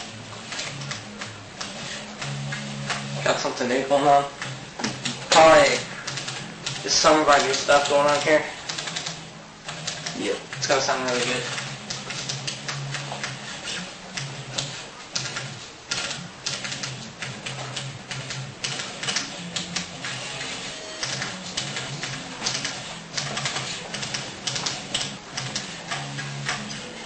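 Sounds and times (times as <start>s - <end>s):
rapid clicking and tapping: 0.0s - 27.0s.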